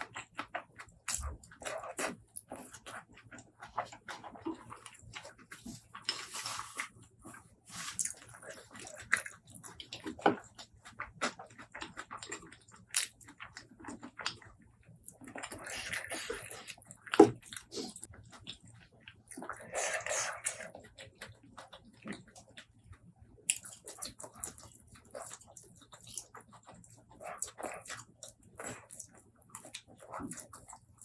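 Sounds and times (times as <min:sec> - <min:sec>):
wet chewing and lip smacks: 0:00.0 - 0:31.0.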